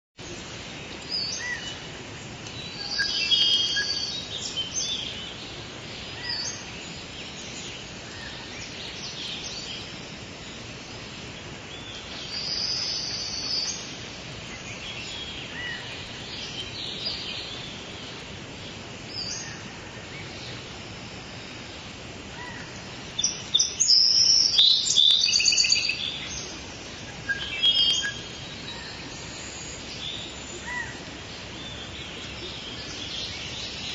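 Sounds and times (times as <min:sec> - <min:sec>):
birds chirping and singing: 0:00.2 - 0:20.8, 0:22.3 - 0:33.9
steady background hiss: 0:00.2 - 0:33.9.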